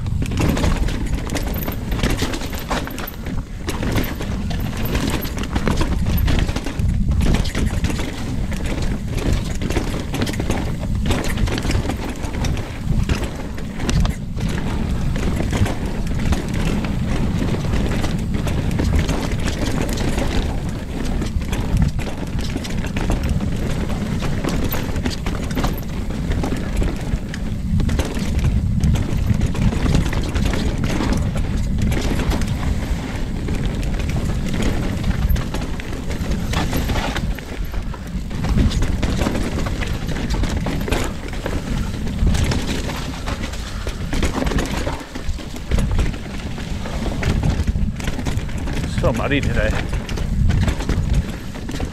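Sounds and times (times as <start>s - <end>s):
bike knocking and rattling: 0.0s - 51.9s
tyres on dirt: 0.0s - 51.9s
wind rushing over camera: 0.0s - 51.9s.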